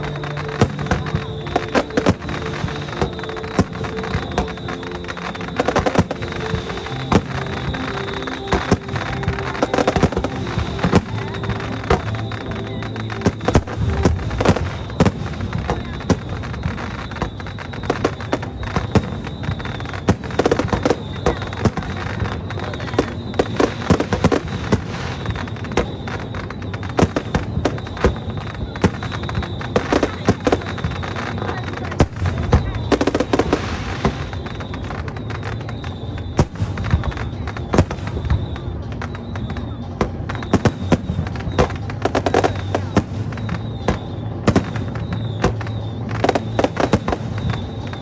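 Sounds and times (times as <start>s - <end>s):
fireworks cracks and booms: 0.0s - 48.0s.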